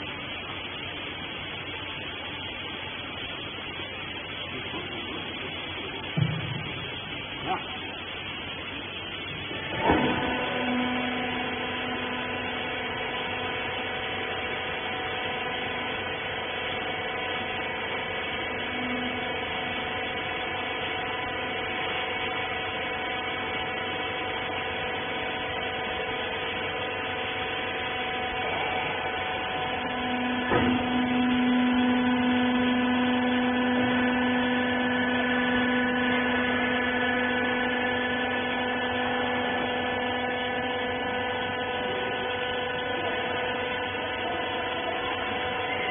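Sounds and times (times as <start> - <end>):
hydraulic motor hum and whine: 0.0 - 45.9.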